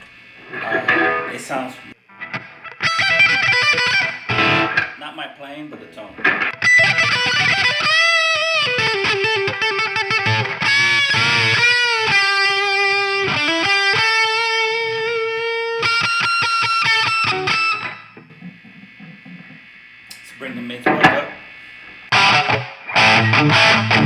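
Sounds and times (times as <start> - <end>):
distorted electric guitar lead: 0.0 - 24.0.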